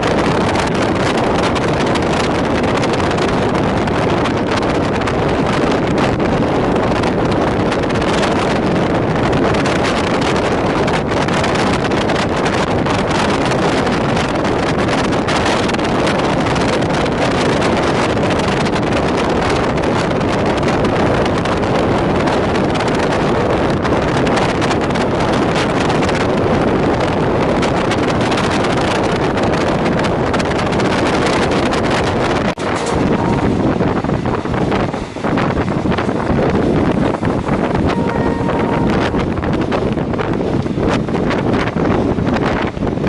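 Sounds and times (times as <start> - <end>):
passenger train running: 0.0 - 43.0
wind buffeting microphone: 0.0 - 43.0.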